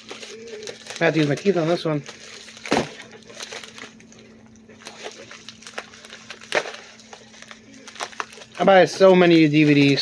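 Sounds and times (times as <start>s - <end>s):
faint hum: 0.0s - 10.0s
package ripping: 0.0s - 10.0s
packaging crinkling: 0.0s - 10.0s.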